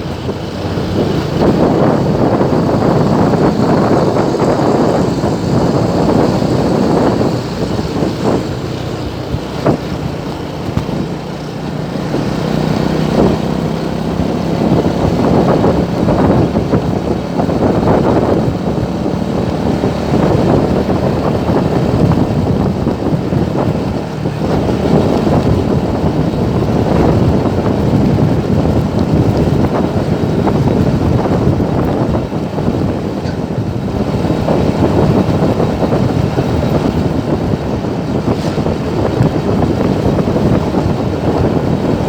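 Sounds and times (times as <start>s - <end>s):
traffic noise: 0.0s - 42.0s
vehicle engines running: 0.0s - 42.0s.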